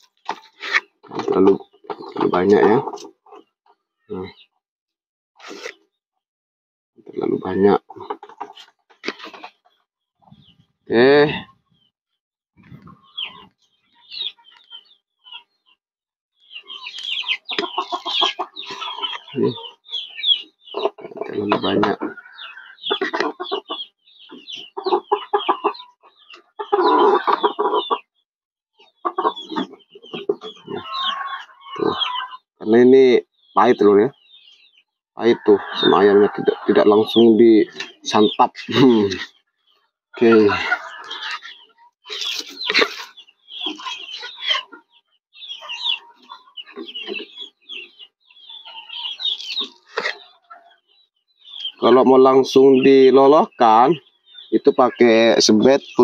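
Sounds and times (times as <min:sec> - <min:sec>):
chickens clucking: 0:00.0 - 0:04.6, 0:05.4 - 0:06.0, 0:07.0 - 0:11.9, 0:12.6 - 0:15.8, 0:16.4 - 0:28.2, 0:28.8 - 0:56.0.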